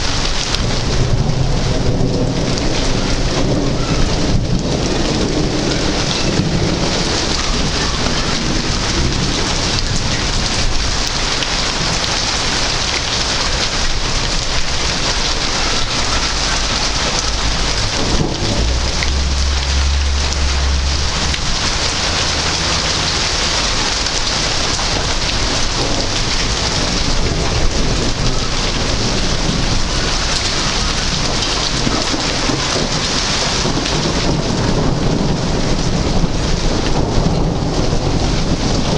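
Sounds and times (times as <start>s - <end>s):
heavy rain: 0.0s - 38.9s
thunder rumbling: 0.0s - 38.9s.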